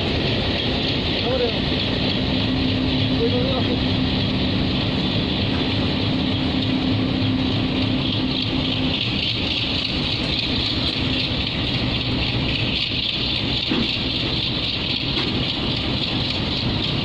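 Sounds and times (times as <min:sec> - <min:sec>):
low hum: 0:00.0 - 0:17.0
train wheels rushing on rails: 0:00.0 - 0:17.0.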